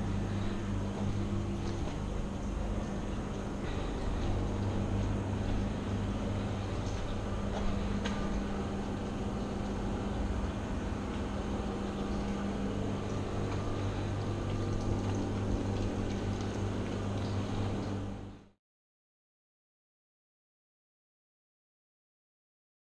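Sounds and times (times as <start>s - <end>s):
low machine hum: 0.0s - 18.6s.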